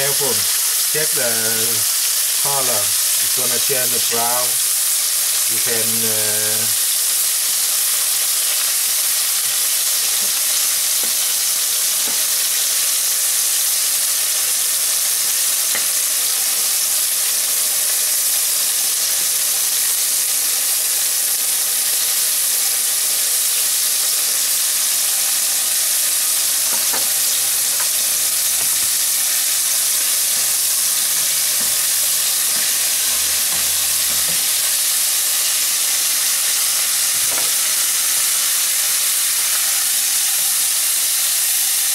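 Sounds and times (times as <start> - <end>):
fish deep-frying sizzle: 0.0 - 41.9.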